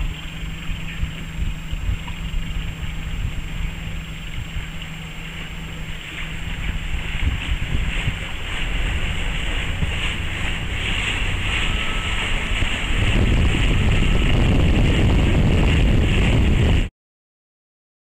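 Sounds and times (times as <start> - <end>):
bow wash: 0.0 - 16.9
outboard boat engine: 0.0 - 16.9
wind buffeting microphone: 0.0 - 16.9.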